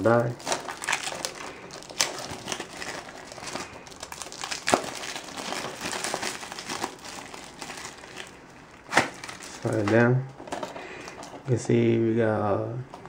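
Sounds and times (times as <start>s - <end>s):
plastic wrap snapping: 0.0s - 11.4s
plastic wrap crinkling: 0.0s - 11.6s.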